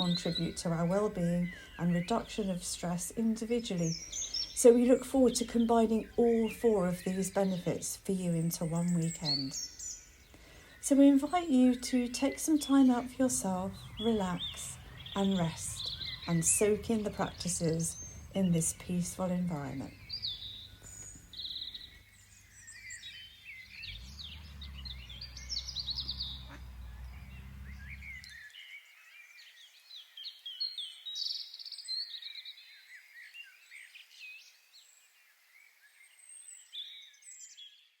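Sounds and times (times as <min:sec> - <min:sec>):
small birds chirping and trilling: 0:00.0 - 0:38.0.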